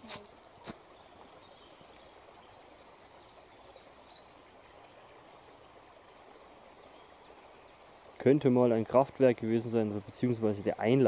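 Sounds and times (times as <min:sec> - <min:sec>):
flowing water: 0:00.0 - 0:11.0
songbird singing: 0:00.0 - 0:11.0.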